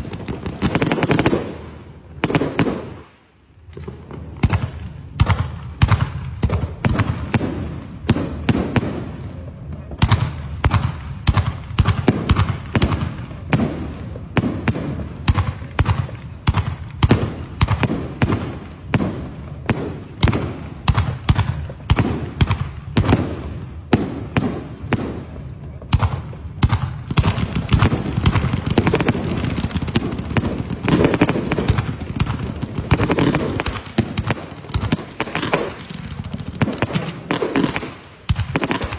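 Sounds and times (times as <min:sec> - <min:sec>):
firecrackers banging: 0:00.0 - 0:38.9.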